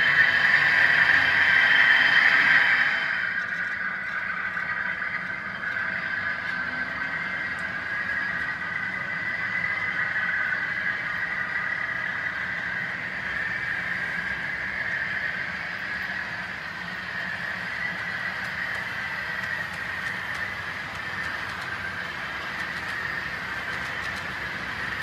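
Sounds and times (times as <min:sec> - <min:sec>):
model train whirring hum: 0:00.0 - 0:25.0.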